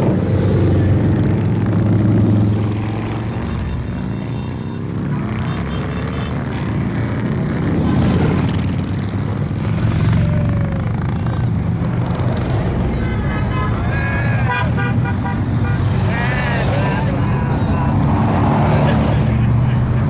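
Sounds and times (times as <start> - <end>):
motorcycles riding past: 0.0 - 20.0.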